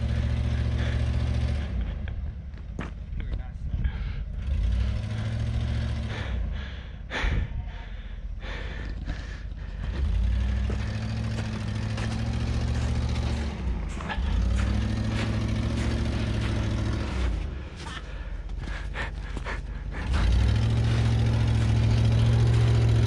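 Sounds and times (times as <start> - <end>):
car engine at low revs: 0.0 - 23.0.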